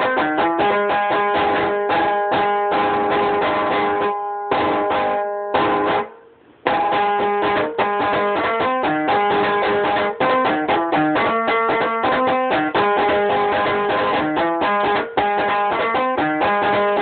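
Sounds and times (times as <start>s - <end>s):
plucked lyre notes: 0.0s - 17.0s.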